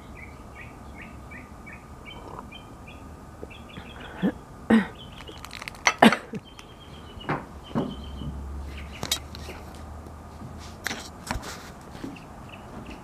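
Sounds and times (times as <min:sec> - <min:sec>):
bird chirping: 0:00.0 - 0:09.7, 0:12.1 - 0:13.0.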